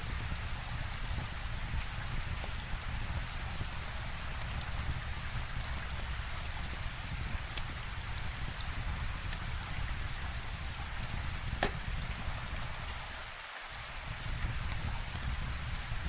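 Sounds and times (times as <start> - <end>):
wood fire crackling: 0.0 - 13.2, 13.9 - 16.0
steady rainfall: 0.0 - 16.0.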